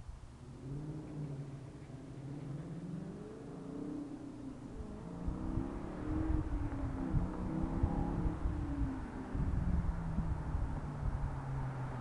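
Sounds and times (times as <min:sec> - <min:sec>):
car engine accelerating hard: 0:00.3 - 0:12.0.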